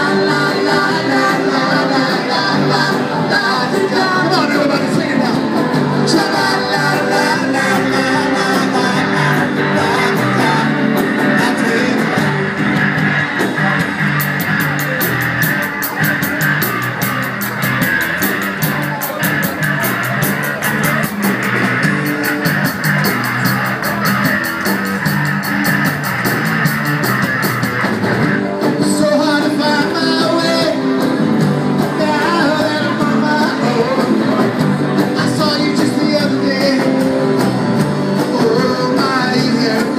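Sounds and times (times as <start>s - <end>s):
person singing: 0.0s - 25.3s, 28.6s - 39.9s
live rock and roll band: 0.0s - 39.9s.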